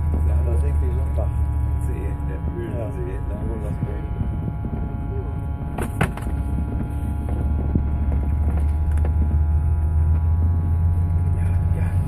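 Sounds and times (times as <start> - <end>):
bus engine and road drone: 0.0 - 12.0
faint steady whine: 0.0 - 12.0.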